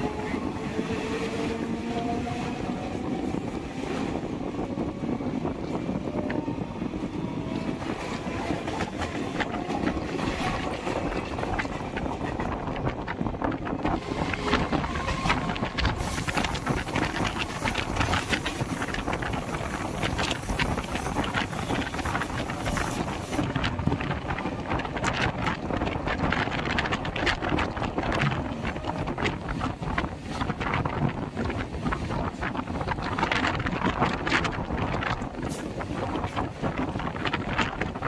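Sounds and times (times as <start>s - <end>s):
train coaches rolling by: 0.0s - 38.0s
wind buffeting microphone: 0.0s - 38.0s.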